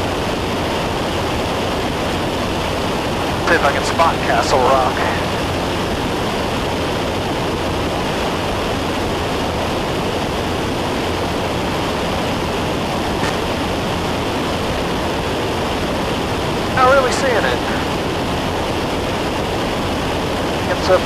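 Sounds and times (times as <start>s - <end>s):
aircraft cabin engine drone: 0.0s - 21.0s.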